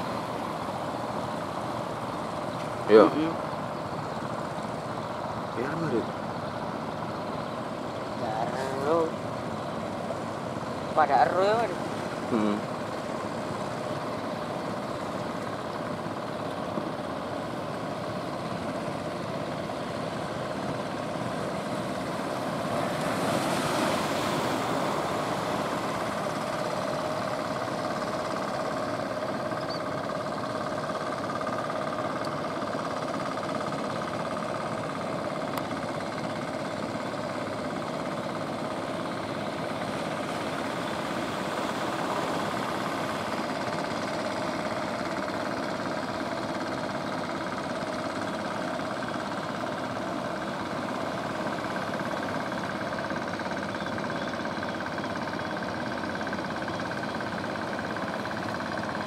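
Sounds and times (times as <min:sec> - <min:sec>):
constant rushing noise: 0:00.0 - 0:59.0
motor engine humming: 0:00.0 - 0:59.0.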